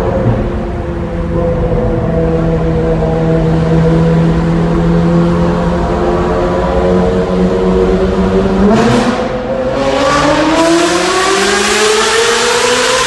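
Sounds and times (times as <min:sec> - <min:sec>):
car engine revving in tunnel: 0:00.0 - 0:13.0.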